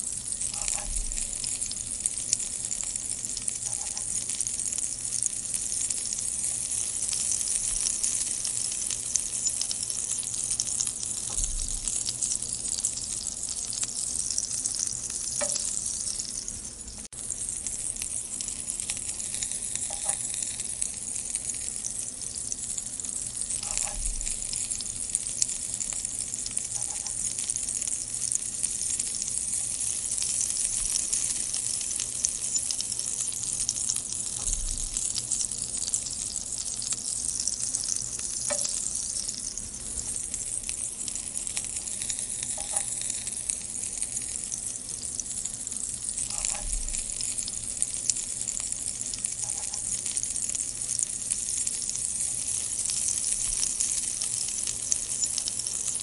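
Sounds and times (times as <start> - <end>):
chillies frying crackling sizzle: 0.0 - 56.0.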